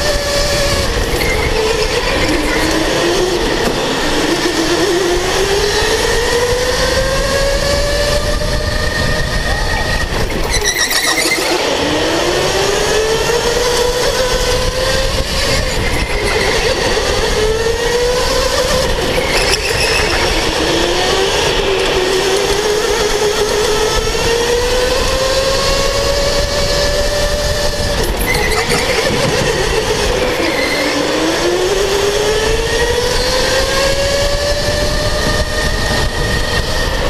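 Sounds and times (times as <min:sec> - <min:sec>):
electric go-kart motor whining: 0:00.0 - 0:37.0
steady rushing noise: 0:00.0 - 0:37.0.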